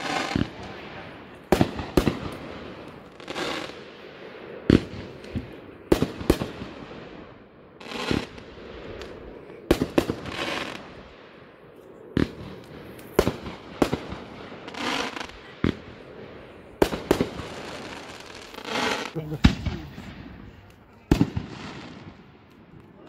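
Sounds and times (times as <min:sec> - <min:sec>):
hissing rushes of fireworks: 0:00.0 - 0:23.0.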